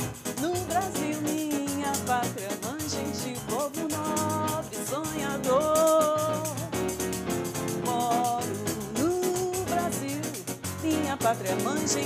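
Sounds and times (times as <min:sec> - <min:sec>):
samba on keyboard: 0:00.0 - 0:12.0
tambourine jingles: 0:00.0 - 0:12.0.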